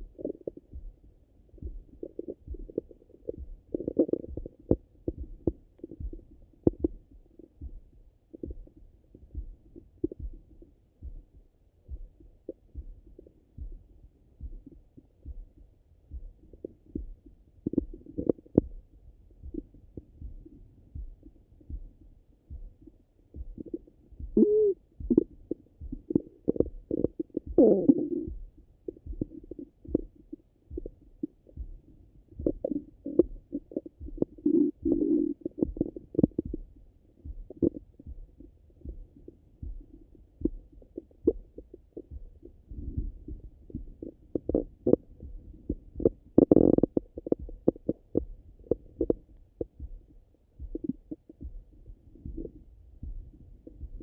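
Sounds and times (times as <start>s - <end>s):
stomach gurgles and rumbles: 0.0s - 54.0s.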